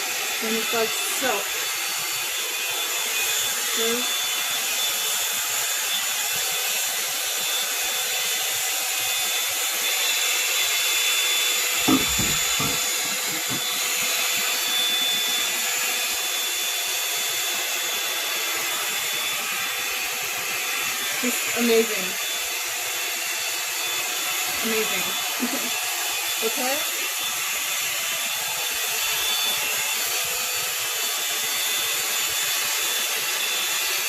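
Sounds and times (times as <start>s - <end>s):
hair dryer brush running: 0.0s - 34.0s.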